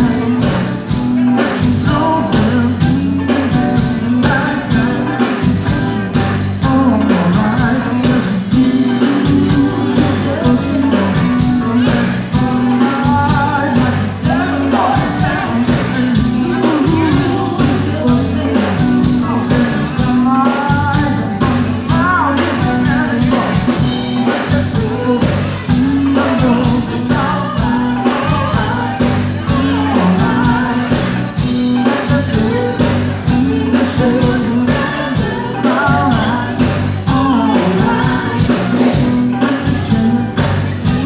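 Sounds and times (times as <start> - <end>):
drum kit: 0.0 - 41.0
electric guitar: 0.0 - 41.0
woman singing: 1.6 - 41.0.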